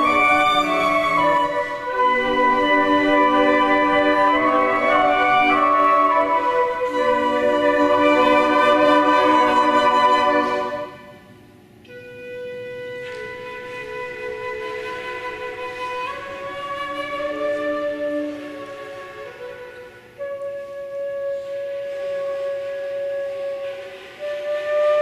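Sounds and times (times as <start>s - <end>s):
flute choir playing chords: 0.0s - 25.0s.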